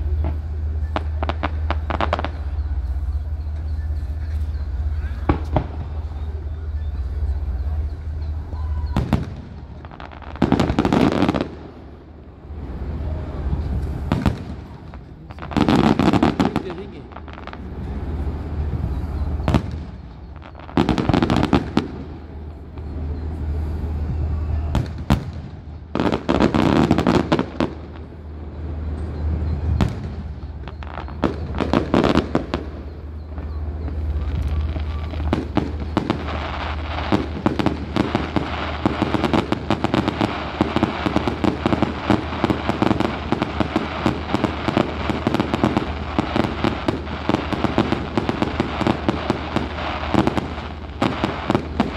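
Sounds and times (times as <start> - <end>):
firework crackle: 0.0 - 51.9
firework shells booming: 0.0 - 51.9.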